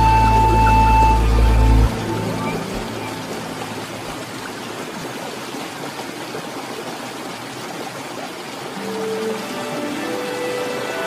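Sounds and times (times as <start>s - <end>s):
waterfall splashing over rocks: 0.0s - 11.0s.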